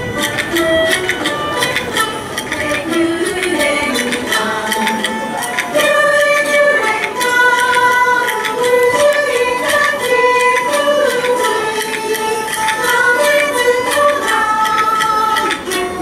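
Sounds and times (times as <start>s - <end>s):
plucked moon lute: 0.0s - 16.0s
sliding melody line: 0.0s - 16.0s.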